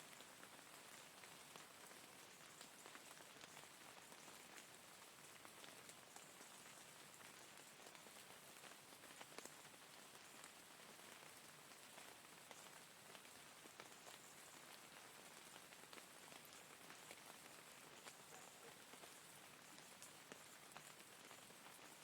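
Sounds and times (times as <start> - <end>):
steady rain hiss: 0.0 - 22.0
raindrop ticks: 1.2 - 10.6, 11.7 - 22.0.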